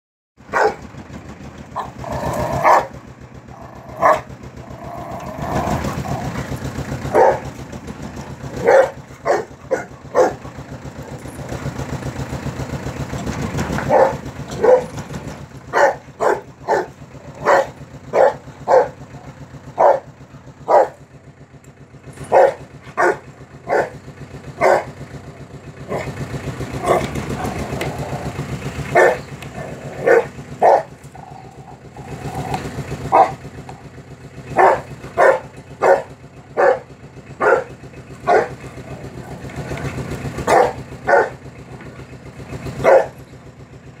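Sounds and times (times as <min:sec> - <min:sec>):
dog barking angrily: 0:00.4 - 0:00.9, 0:01.7 - 0:12.6, 0:13.6 - 0:21.1, 0:22.0 - 0:41.7, 0:42.5 - 0:43.3
low steady rumble: 0:00.4 - 0:44.0.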